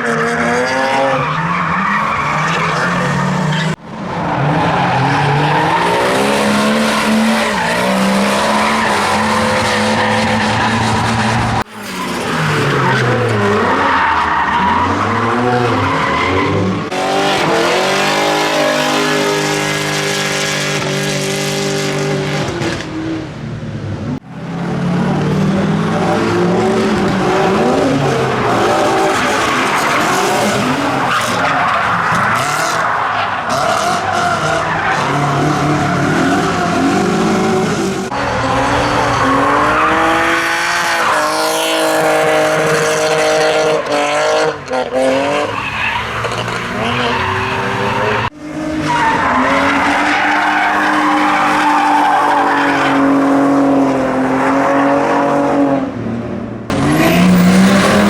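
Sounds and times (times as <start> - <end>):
tyres skidding and squealing: 0.0 - 56.1, 56.7 - 58.0
car engines revving: 0.0 - 58.0.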